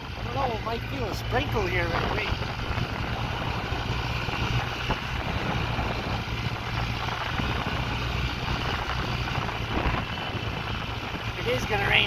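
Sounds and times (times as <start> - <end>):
engine droning: 0.0 - 12.0
wind on microphone: 0.0 - 12.0.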